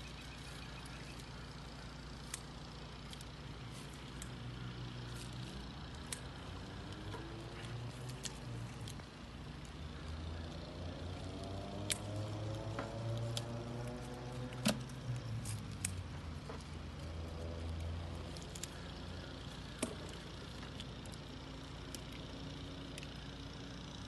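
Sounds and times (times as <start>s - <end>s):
low motor hum: 0.0s - 24.0s
knife cutting plant stems: 2.2s - 23.3s.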